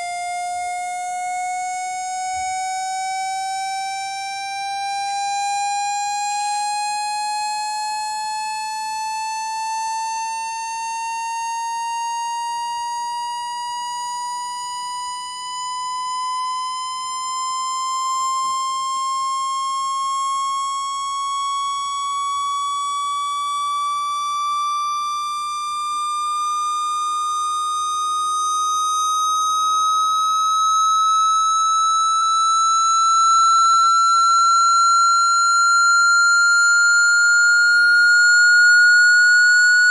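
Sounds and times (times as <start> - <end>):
rising electronic test tone: 0.0 - 39.9.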